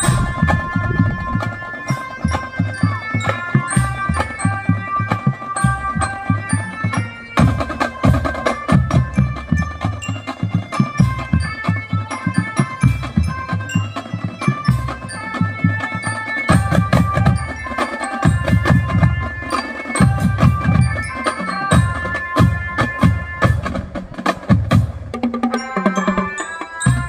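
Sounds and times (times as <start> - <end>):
mallet bell melody: 0.0 - 23.8, 24.6 - 27.0
marching drums: 0.0 - 27.0.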